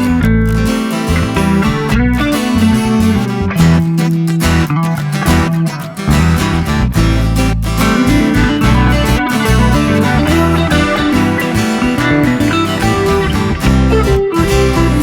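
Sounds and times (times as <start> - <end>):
guitar music with bass: 0.0 - 15.0.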